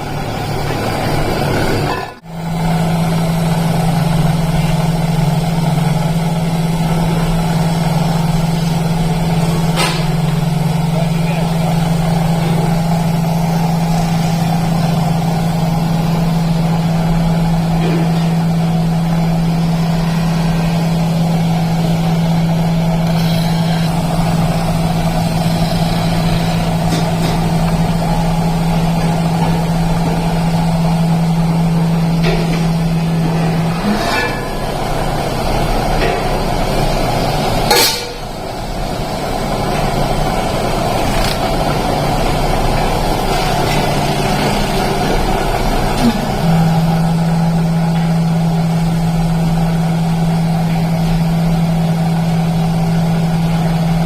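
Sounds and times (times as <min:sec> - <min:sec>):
factory machinery humming: 0:00.0 - 0:54.0.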